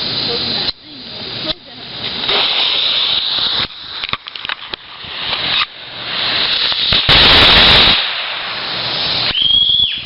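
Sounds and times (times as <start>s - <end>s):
firecracker crackles: 0.0s - 10.0s
steady hiss: 0.0s - 10.0s
firecracker bang: 1.5s - 10.0s.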